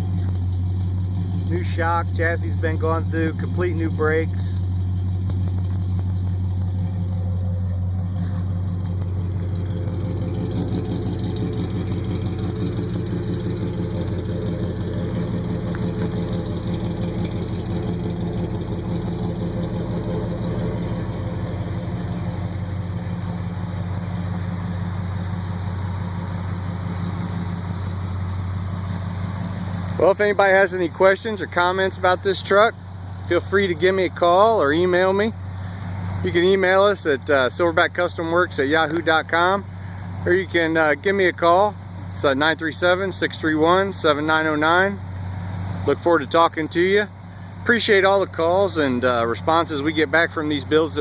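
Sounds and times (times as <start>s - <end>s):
pickup engine idling: 0.0s - 51.0s.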